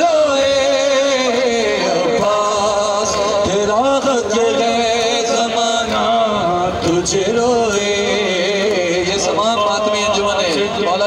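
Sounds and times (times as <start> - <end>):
person chanting a lament: 0.0 - 11.0.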